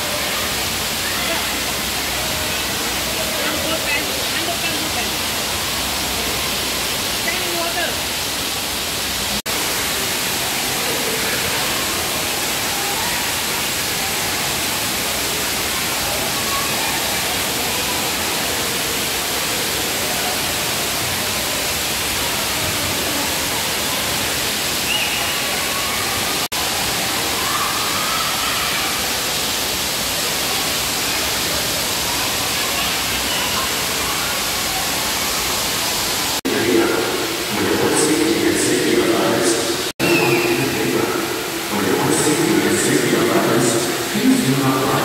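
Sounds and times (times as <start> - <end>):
faint voices: 0.0 - 45.0
fountains spraying and splashing: 0.0 - 45.0.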